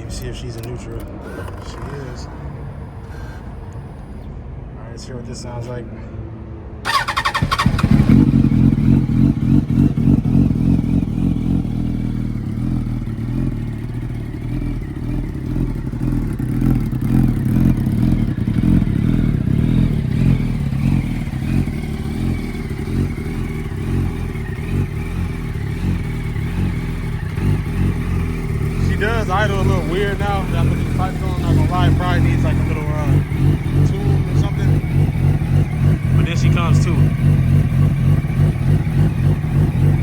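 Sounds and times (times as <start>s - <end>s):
motorcycle engine starting and idling: 0.0s - 4.2s, 6.8s - 40.0s.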